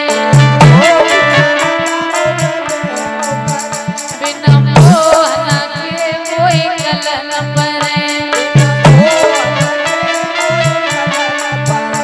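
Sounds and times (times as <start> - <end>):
hand drum beat: 0.0 - 12.0
jingling percussion: 0.0 - 12.0
person singing: 0.0 - 12.0.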